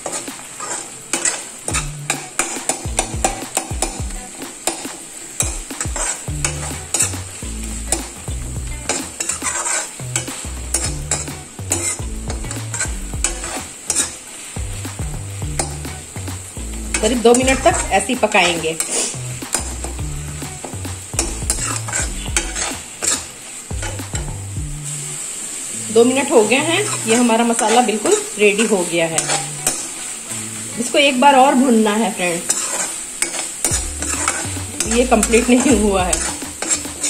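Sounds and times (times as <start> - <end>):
metal spoon scraping a pan: 0.0 - 25.0, 25.7 - 37.0
sauce sizzling in oil: 0.0 - 37.0.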